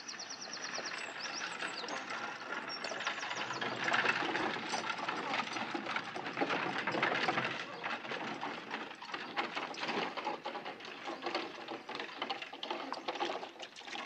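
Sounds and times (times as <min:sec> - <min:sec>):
carriage wheels rattling: 0:00.0 - 0:14.0
horse hooves clopping: 0:00.0 - 0:14.0.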